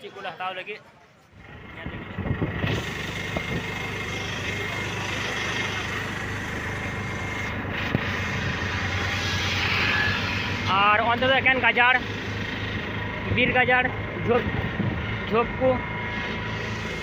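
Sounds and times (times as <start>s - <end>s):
road noise: 0.0s - 17.0s
small engine running: 1.3s - 17.0s.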